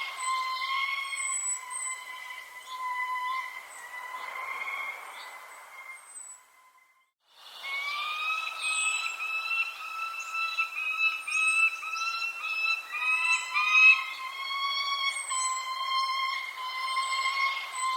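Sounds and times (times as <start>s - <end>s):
high falling bird chirps: 0.0s - 17.9s
wavering whistling tone: 0.0s - 17.9s.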